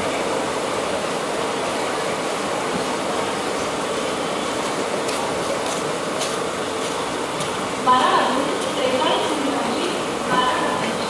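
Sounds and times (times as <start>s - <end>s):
train rolling rushing noise: 0.0s - 11.0s.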